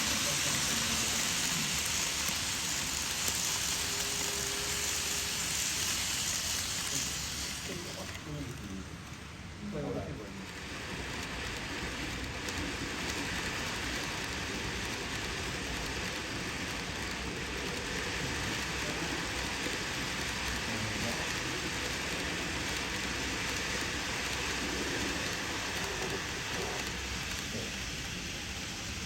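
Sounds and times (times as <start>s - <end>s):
model train running on track: 0.0s - 29.0s.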